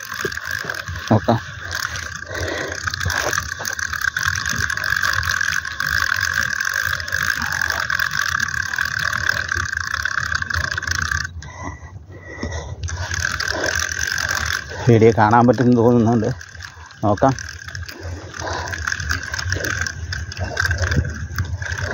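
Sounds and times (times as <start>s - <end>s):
fishing reel whirring: 0.0s - 21.9s.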